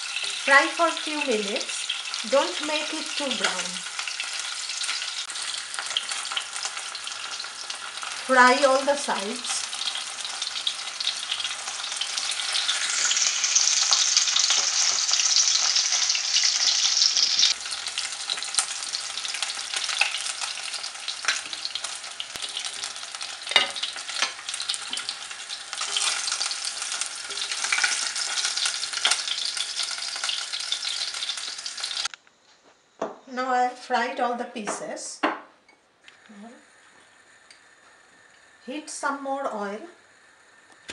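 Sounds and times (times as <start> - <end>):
fish sizzling in hot oil: 0.0 - 32.1, 36.3 - 40.9.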